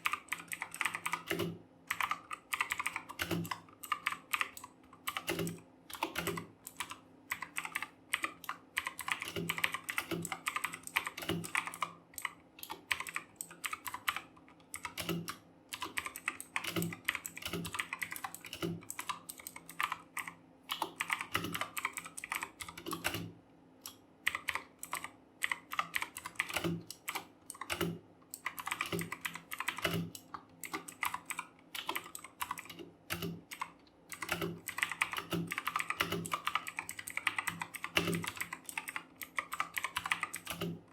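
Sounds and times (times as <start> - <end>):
fast typing on a mechanical keyboard: 0.0 - 40.9.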